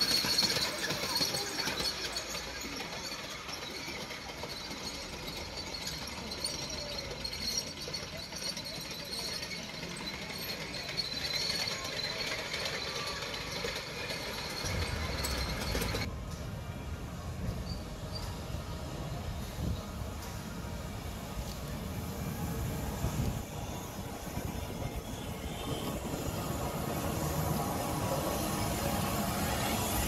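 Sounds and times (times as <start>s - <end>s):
indistinct crowd chatter: 0.0s - 30.0s
machinery rumbling: 0.0s - 30.0s.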